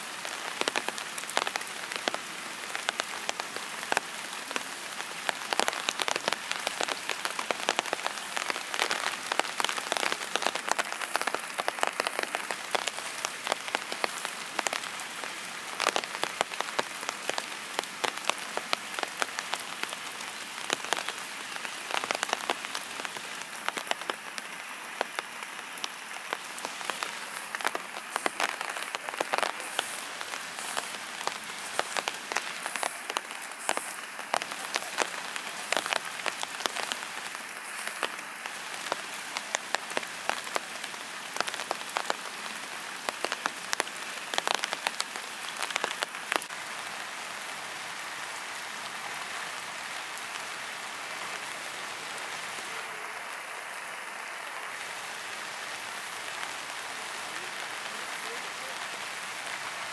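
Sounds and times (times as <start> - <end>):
raindrops tapping close by: 0.0 - 59.9
steady rain falling: 0.0 - 59.9.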